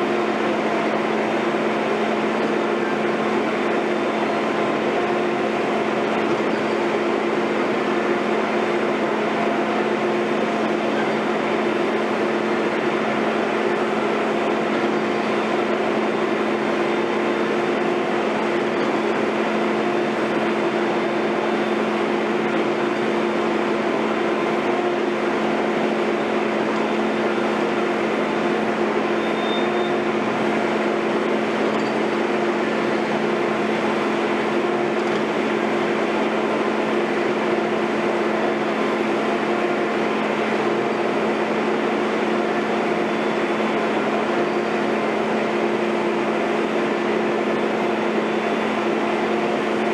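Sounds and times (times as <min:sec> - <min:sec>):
construction machinery diesel engine drone: 0:00.0 - 0:49.9.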